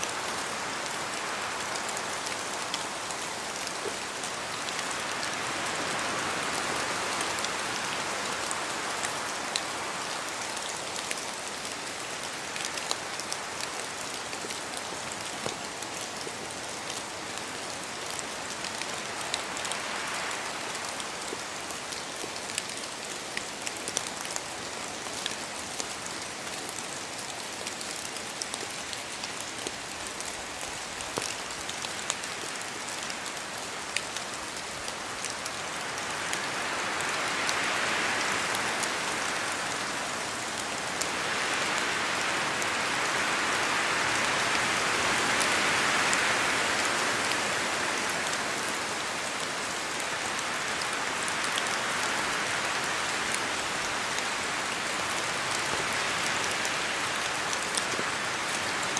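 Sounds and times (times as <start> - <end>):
steady rain rushing: 0.0 - 58.9.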